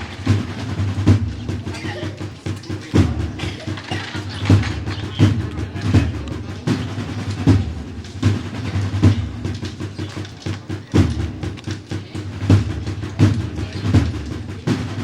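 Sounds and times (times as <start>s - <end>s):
bass drum beats: 0.0s - 15.0s
snare drums rattling: 0.0s - 15.0s.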